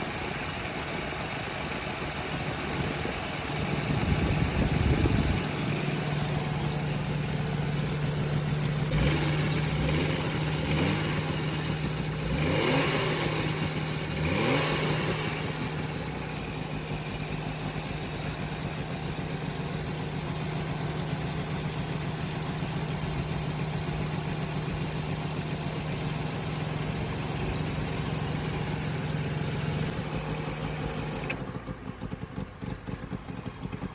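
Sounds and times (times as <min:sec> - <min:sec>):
car engine running: 0:00.0 - 0:33.9.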